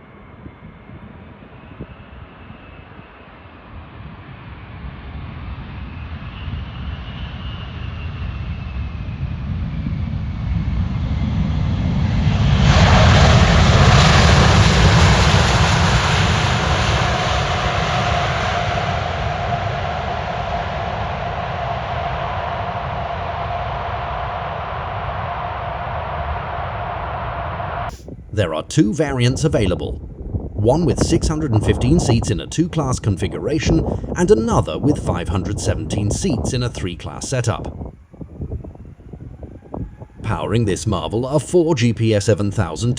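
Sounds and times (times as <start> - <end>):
jet engine rumble: 0.0 - 42.9
jet engine whine: 0.0 - 42.9.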